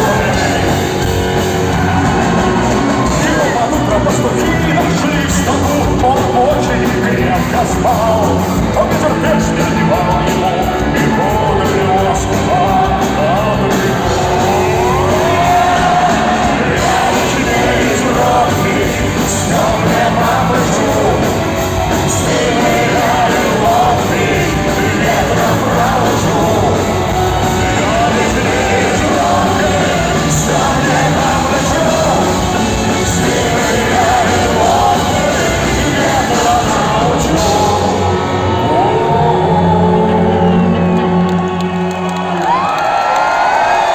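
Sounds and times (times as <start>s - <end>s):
live rock band playing: 0.0s - 42.6s.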